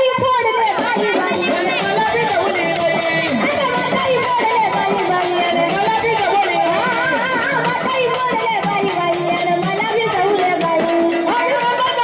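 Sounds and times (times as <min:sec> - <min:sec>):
woman singing: 0:00.0 - 0:12.0
frame drum beat: 0:00.7 - 0:12.0.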